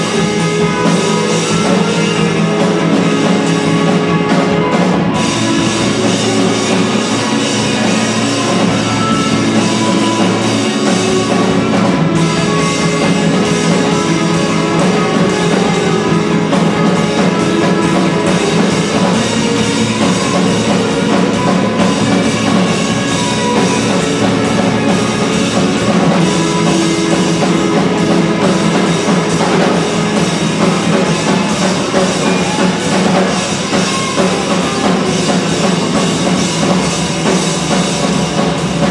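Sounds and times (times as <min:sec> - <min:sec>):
drum kit: 0:00.0 - 0:38.9
guitar: 0:00.0 - 0:38.9
live band playing: 0:00.0 - 0:38.9.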